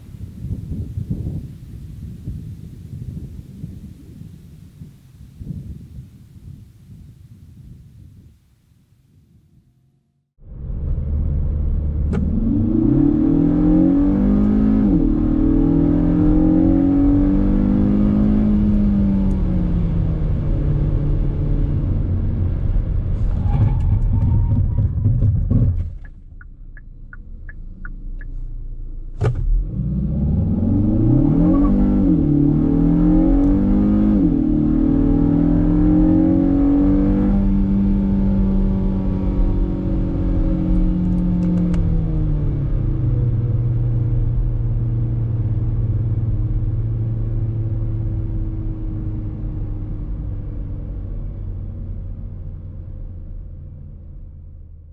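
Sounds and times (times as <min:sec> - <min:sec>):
car engine revving and idling: 0:10.4 - 0:54.9.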